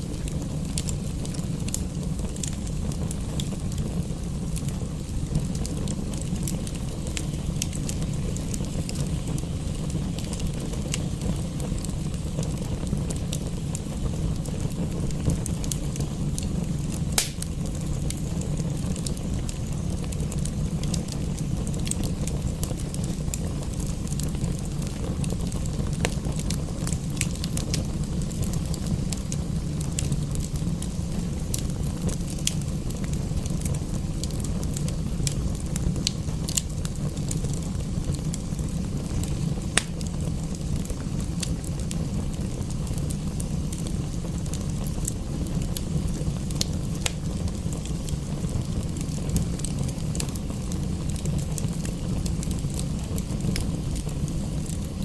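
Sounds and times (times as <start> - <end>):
fire pops: 0.0 - 55.0
wood fire crackling: 0.0 - 55.0.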